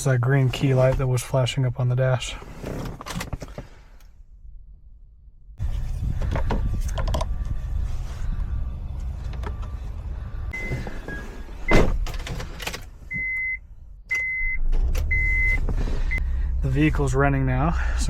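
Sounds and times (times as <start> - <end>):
car engine starting and running: 0.0 - 18.0.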